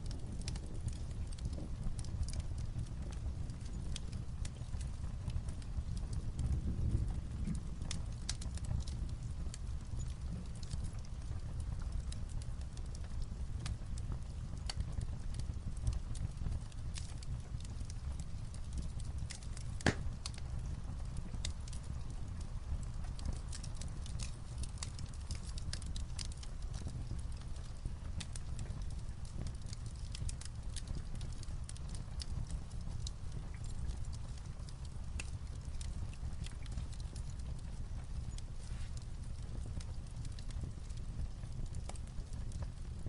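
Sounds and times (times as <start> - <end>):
fireplace crackling: 0.0 - 43.0
light rain on a roof: 0.0 - 43.0.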